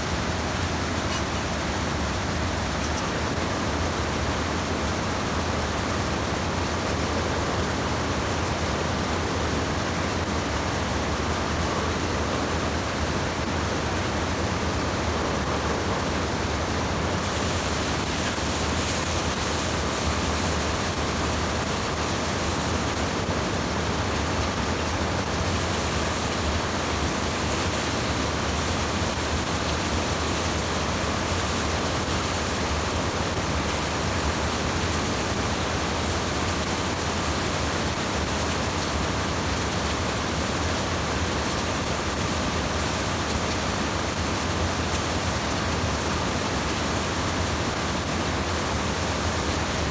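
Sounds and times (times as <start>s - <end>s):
stream water pouring over weir: 0.0s - 49.9s.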